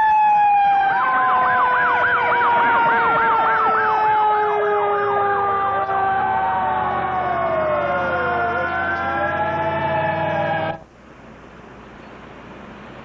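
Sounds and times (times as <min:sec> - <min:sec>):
siren fast yelp: 0:00.0 - 0:10.8
fire truck sirens wailing: 0:00.0 - 0:13.0.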